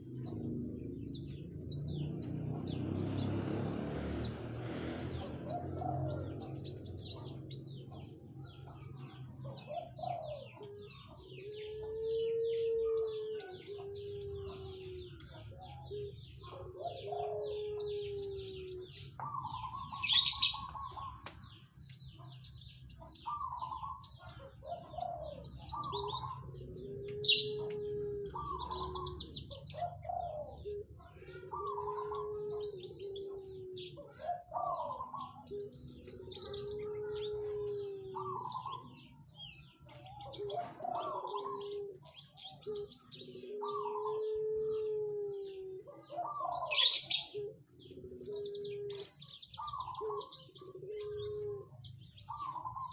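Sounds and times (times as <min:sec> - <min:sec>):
songbird chattering song: 0:00.0 - 0:52.9.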